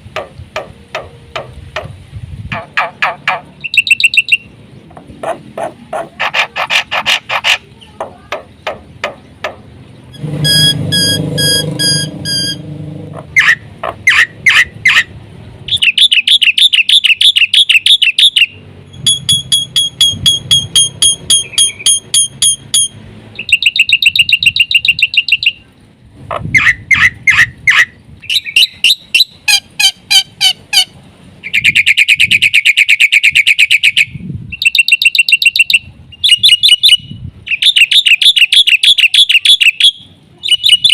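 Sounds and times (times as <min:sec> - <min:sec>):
bird singing: 0:02.7 - 0:15.1, 0:15.7 - 0:25.8, 0:26.6 - 0:30.5, 0:31.4 - 0:40.9.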